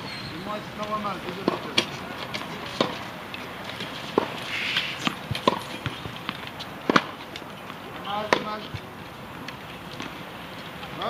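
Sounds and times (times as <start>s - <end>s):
tennis balls struck and bouncing: 0.7s - 11.0s
scuffing on court: 0.8s - 10.7s.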